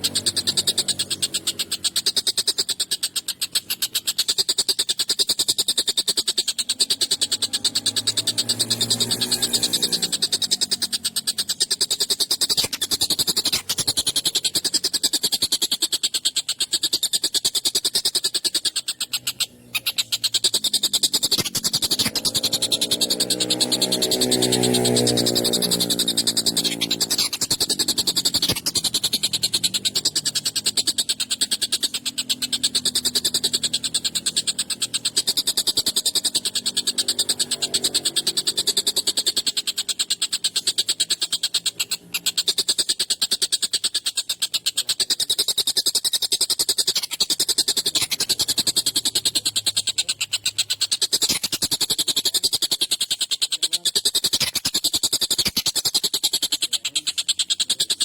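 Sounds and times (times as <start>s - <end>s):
kingfisher calling harshly: 0.0s - 58.0s.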